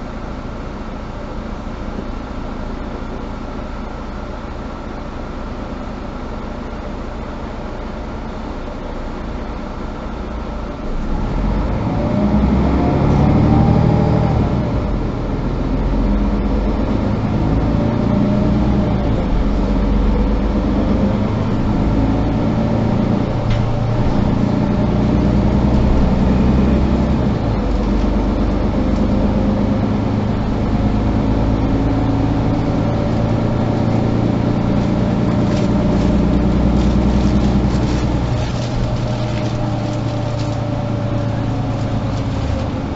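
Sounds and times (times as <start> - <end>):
bus diesel engine accelerating: 0.0 - 42.9.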